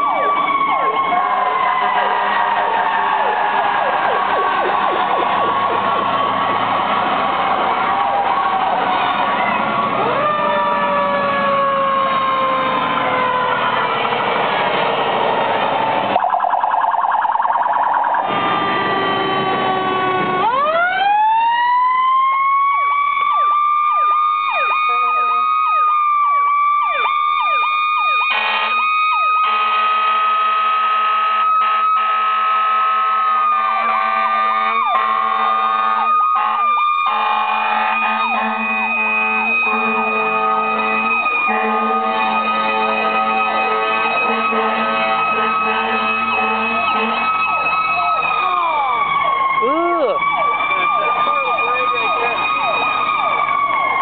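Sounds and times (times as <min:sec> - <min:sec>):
siren yelping: 0:00.0 - 0:06.6, 0:07.4 - 0:14.0, 0:16.1 - 0:54.0
siren wailing: 0:00.0 - 0:14.5, 0:16.0 - 0:54.0
truck engine: 0:00.0 - 0:54.0.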